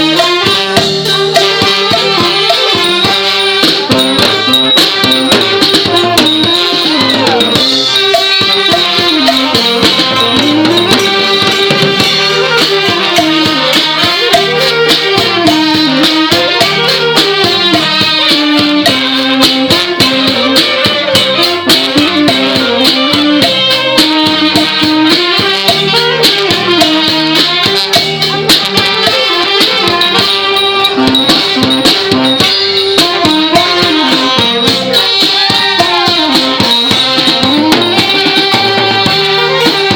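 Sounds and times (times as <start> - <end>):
drums and rattling percussion: 0.0 - 39.9
wind instruments playing melody: 0.0 - 39.9.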